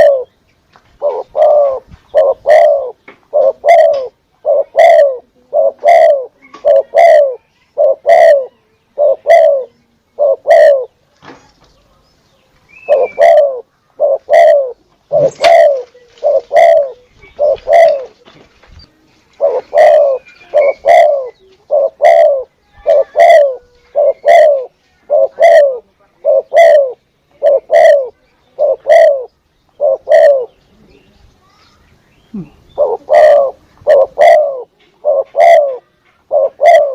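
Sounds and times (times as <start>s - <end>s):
dove cooing: 0.0s - 0.3s, 1.0s - 11.0s, 12.8s - 30.9s, 32.3s - 36.9s.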